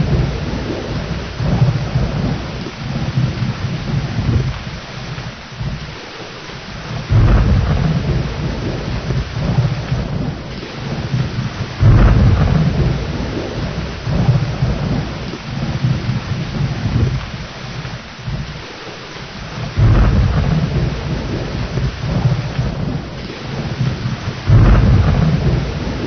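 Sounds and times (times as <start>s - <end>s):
steady rain: 0.0s - 26.0s
thunder rumbles: 0.0s - 26.0s.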